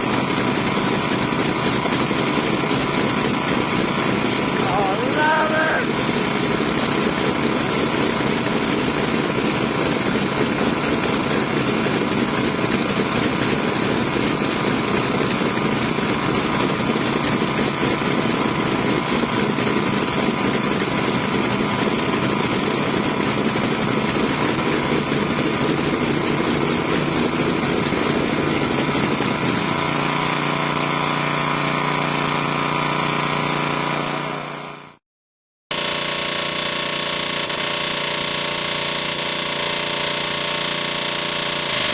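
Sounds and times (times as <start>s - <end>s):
dull machine sound: 0.0s - 35.0s
large engine running: 0.0s - 35.0s, 35.7s - 41.9s.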